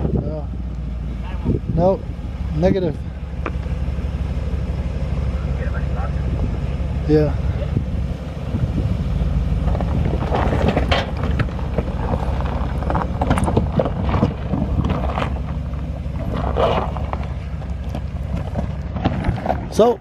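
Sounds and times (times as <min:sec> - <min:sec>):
engine and tyre rumble: 0:00.0 - 0:20.0
gravel crunching under tyres: 0:00.0 - 0:20.0.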